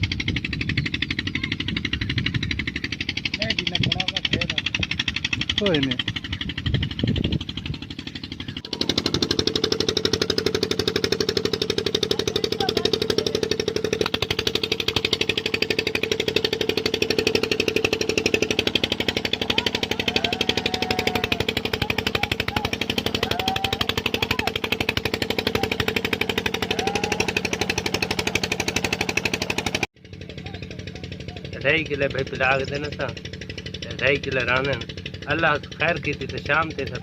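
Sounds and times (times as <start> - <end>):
pump engine knocking: 0.0 - 37.0.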